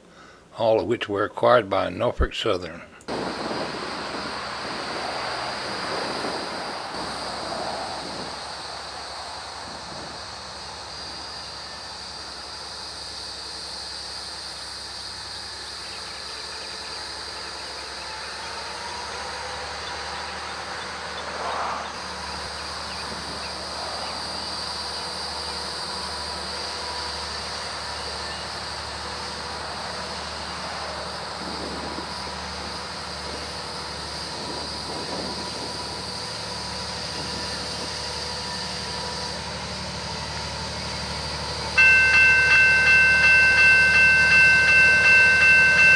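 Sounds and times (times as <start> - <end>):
diesel locomotive engine rumbling: 2.9 - 45.9.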